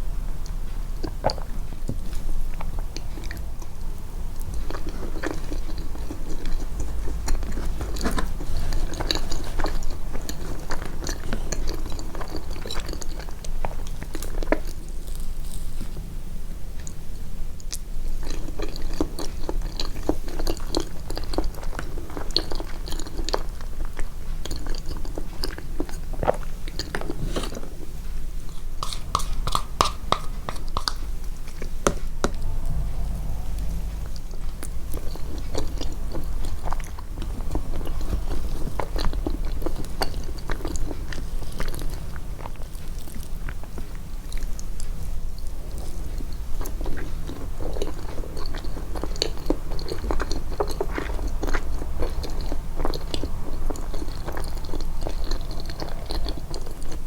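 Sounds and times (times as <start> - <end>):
close chewing and biting: 0.4 - 16.0, 17.6 - 34.0, 34.6 - 57.0.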